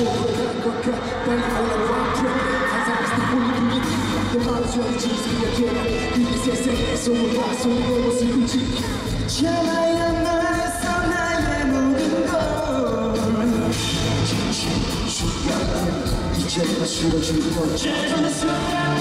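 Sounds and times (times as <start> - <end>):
live pop music with singing: 0.0 - 19.0.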